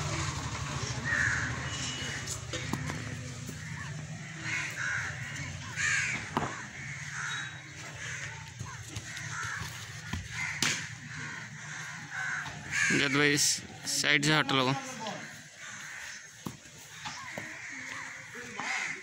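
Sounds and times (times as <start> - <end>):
crows cawing: 0.2 - 19.0.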